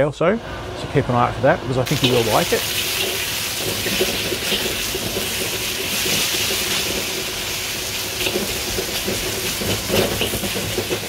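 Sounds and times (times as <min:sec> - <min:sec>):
steady hissing rush: 0:01.8 - 0:10.8.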